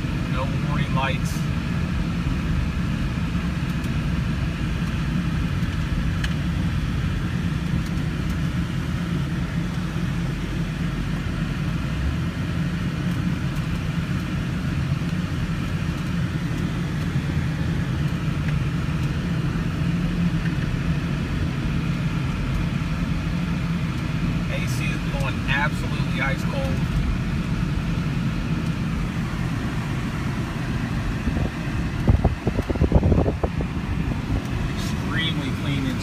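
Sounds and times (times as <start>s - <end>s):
car engine and road drone: 0.0s - 36.0s.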